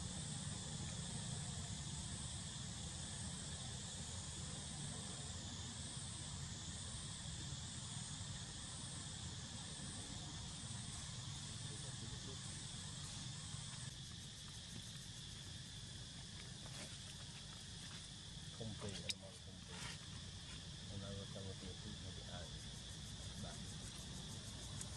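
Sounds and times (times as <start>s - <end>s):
insects buzzing: 0.0s - 24.9s.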